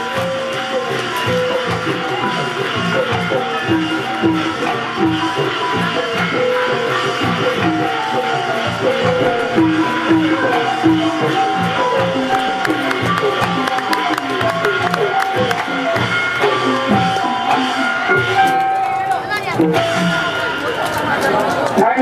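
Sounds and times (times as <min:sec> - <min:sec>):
melody: 0:00.0 - 0:21.9
busy drums: 0:00.0 - 0:22.0
sharp percussion strokes: 0:00.0 - 0:22.0.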